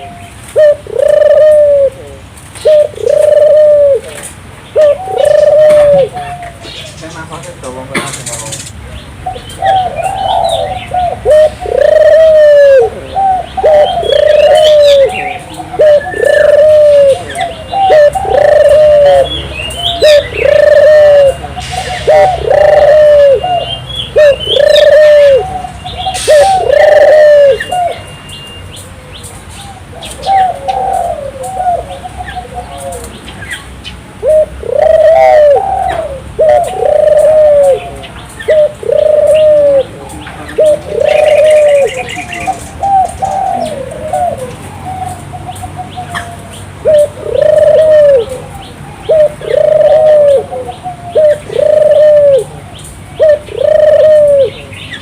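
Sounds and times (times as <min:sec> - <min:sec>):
dove cooing: 0:00.0 - 0:28.1, 0:29.0 - 0:33.6, 0:34.2 - 0:55.0.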